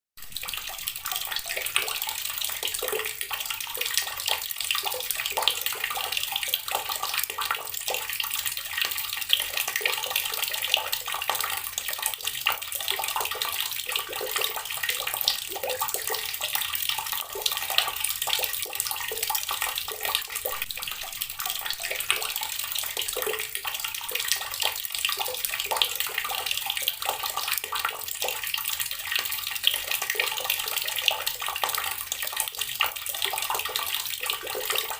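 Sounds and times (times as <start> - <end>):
water running from a tap: 0.2 - 34.9.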